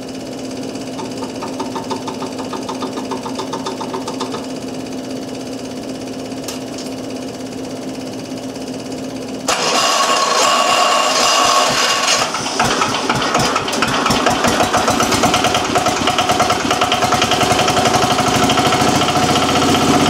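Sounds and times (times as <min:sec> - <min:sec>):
diesel engine starting and running: 0:00.0 - 0:20.0.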